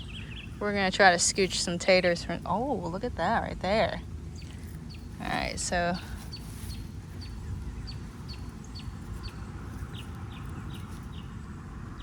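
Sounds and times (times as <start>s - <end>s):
low steady rustle: 0.0s - 11.4s.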